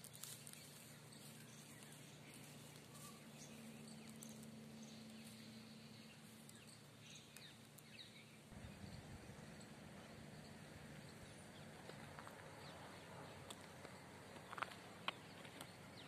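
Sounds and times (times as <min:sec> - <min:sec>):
distant bird chirps: 0:00.0 - 0:16.0
low steady hum: 0:00.0 - 0:16.0.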